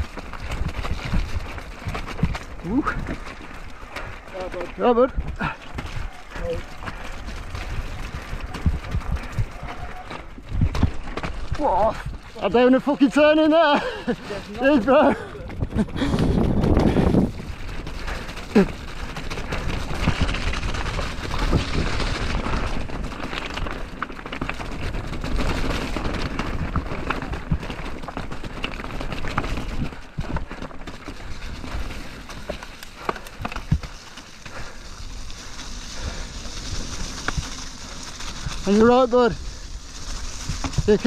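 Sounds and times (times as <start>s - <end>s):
bike tyres rushing through mud: 0.0s - 41.0s
wheels knocking on stones: 0.0s - 41.0s
wind: 0.0s - 41.0s.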